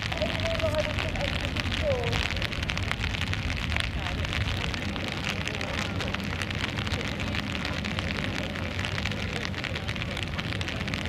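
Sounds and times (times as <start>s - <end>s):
low even rumble: 0.0s - 11.0s
rain drops ticking: 0.0s - 11.0s.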